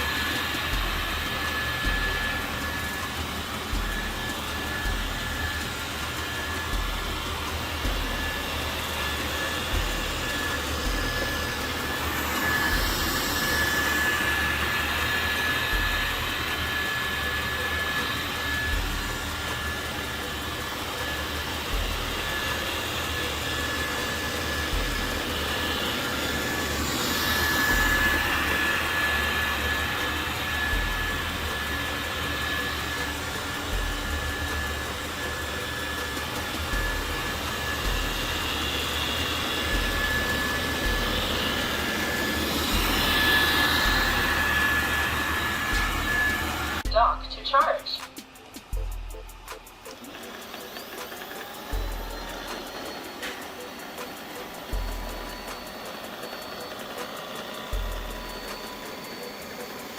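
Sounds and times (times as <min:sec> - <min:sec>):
robot vacuum whirring: 0:00.0 - 0:46.9, 0:47.6 - 0:59.9
low pulse: 0:00.0 - 0:49.7
high whine: 0:00.0 - 0:59.9.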